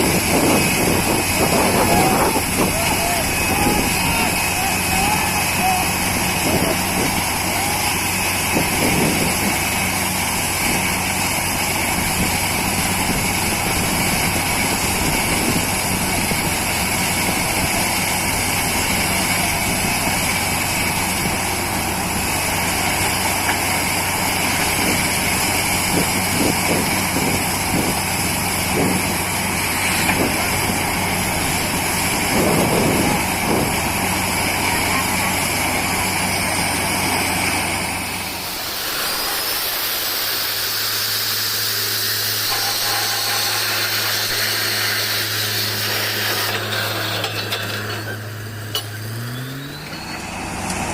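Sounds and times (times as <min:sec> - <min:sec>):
drilling rig engine droning: 0:00.0 - 0:50.9.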